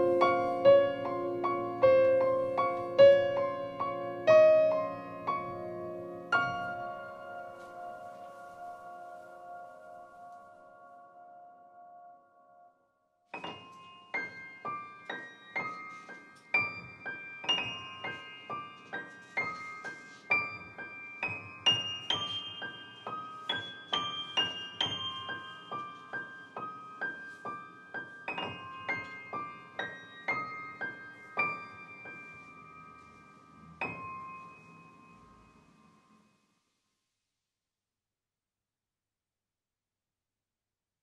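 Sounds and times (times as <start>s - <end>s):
slow piano melody: 0.0s - 36.6s.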